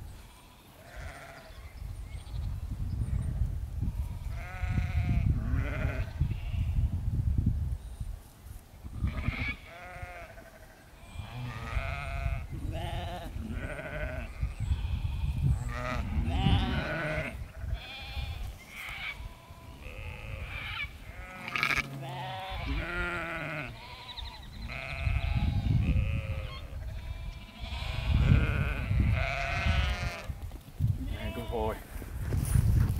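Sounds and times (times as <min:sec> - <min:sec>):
sheep and lambs bleating: 0:00.2 - 0:01.6, 0:03.9 - 0:06.9, 0:08.9 - 0:30.4, 0:31.0 - 0:31.8.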